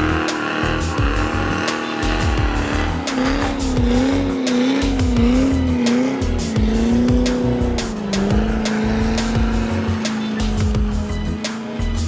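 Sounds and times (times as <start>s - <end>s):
car engine at high revs: 0.0s - 12.0s
music with steady beat: 0.0s - 12.0s
tyres squealing: 0.0s - 12.0s.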